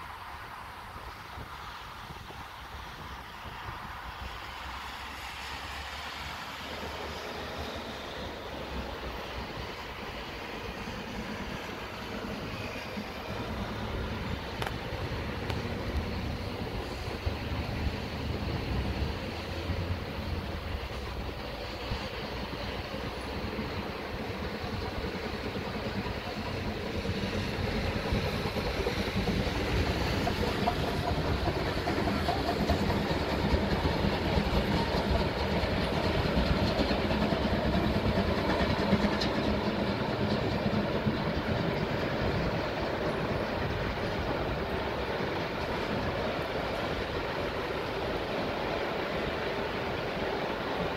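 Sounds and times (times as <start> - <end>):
steam locomotive exhaust: 0.0 - 50.9
train wheels on rails: 0.0 - 50.9.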